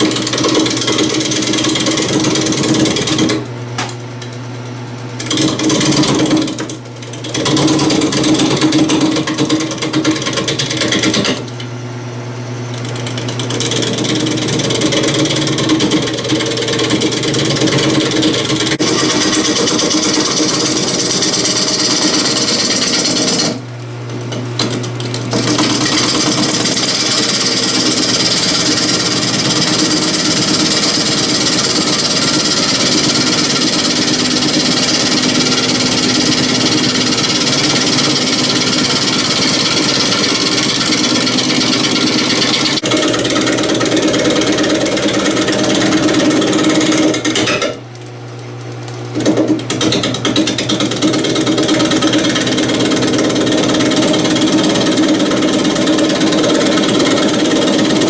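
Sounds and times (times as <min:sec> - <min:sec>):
power tool cutting wood: 0:00.0 - 0:03.4, 0:12.8 - 0:47.3, 0:49.2 - 0:58.0.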